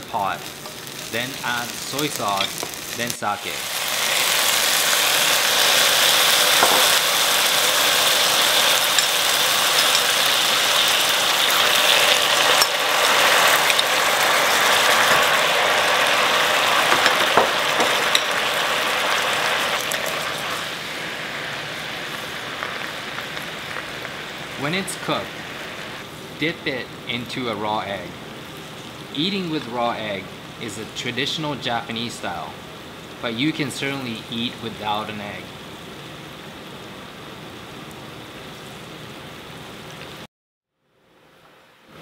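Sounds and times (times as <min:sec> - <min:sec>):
sauce sizzling and bubbling in a pot: 0:00.0 - 0:40.3.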